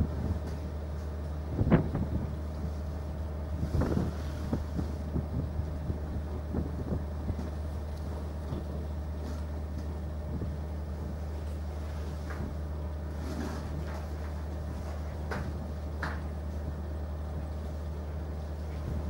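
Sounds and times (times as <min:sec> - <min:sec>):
low machinery drone: 0:00.0 - 0:19.0.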